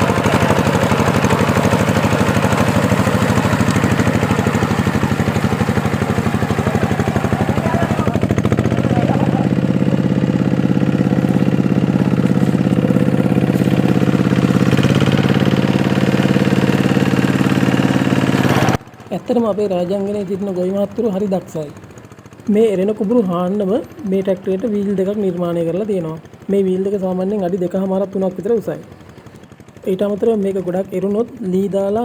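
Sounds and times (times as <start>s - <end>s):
diesel tractor engine running: 0.0s - 32.0s.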